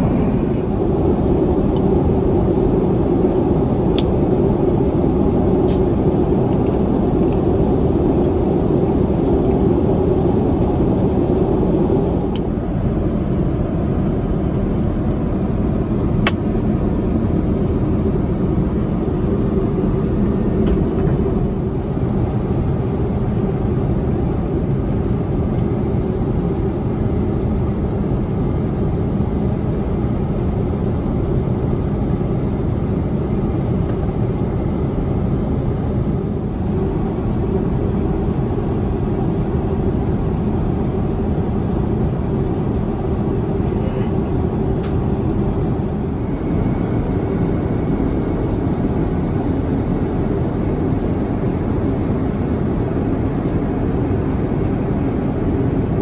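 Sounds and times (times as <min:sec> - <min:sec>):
airplane cabin airflow and engine hum: 0:00.0 - 0:56.0.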